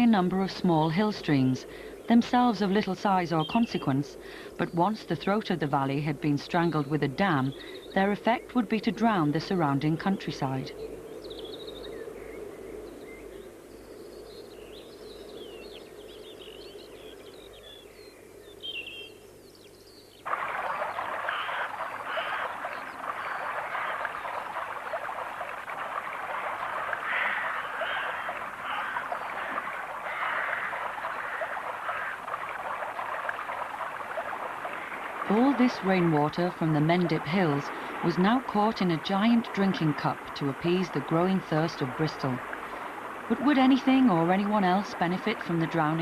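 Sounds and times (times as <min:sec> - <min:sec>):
rushing water: 0:00.0 - 0:11.1, 0:20.2 - 0:46.0.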